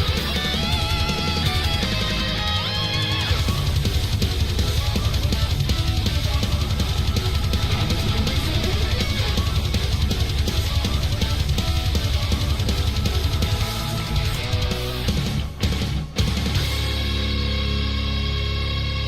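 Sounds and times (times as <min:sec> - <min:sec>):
fast driving drums: 0:00.0 - 0:18.0
bass guitar: 0:00.0 - 0:19.0
distorted electric guitars: 0:00.0 - 0:19.0.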